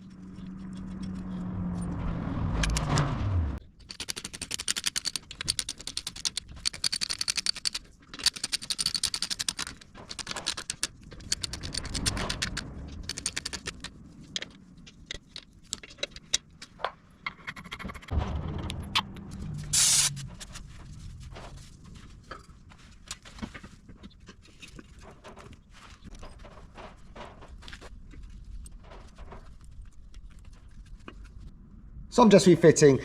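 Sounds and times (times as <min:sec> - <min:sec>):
metallic clicking and rattling: 0:03.6 - 0:31.5.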